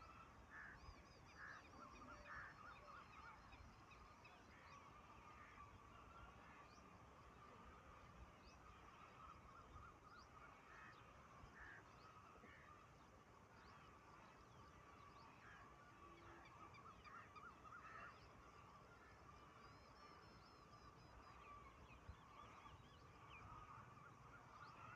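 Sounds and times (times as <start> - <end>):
bird calls and chirps: 0.0 - 24.9
faint steady hum: 0.0 - 24.9.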